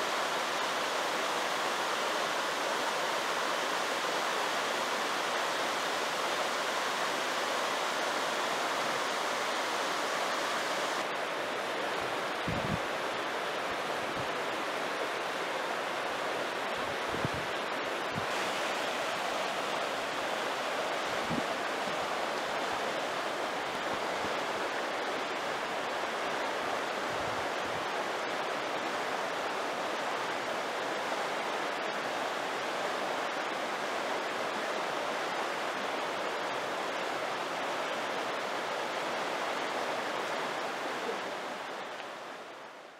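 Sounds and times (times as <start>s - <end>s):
stream rushing over stones: 0.0s - 42.9s.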